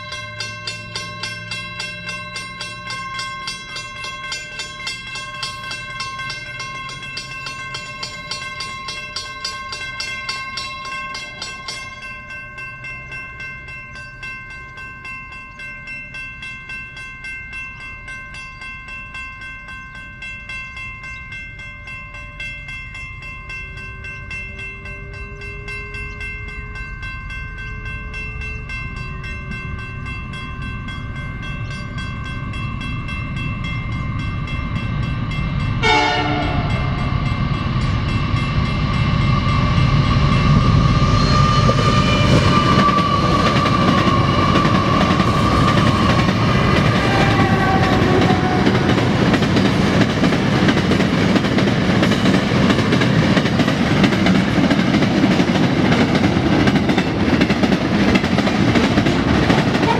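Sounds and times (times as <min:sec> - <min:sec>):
diesel train rumble: 0:00.0 - 0:59.9.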